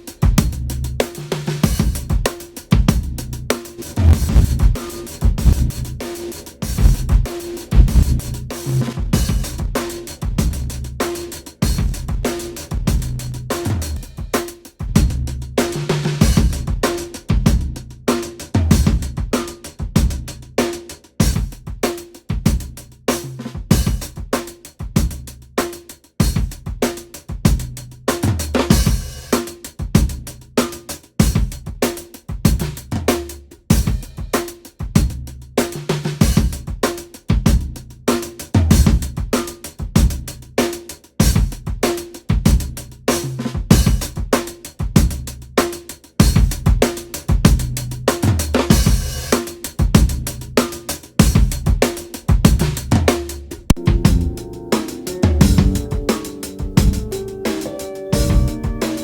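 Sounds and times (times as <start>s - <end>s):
drum kit playing groove: 0.0s - 59.0s.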